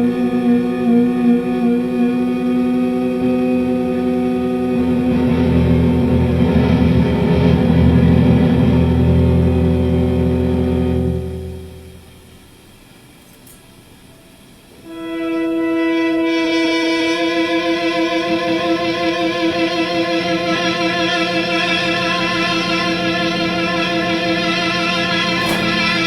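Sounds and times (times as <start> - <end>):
electric guitar sustained notes: 0.0 - 12.4, 14.8 - 26.0.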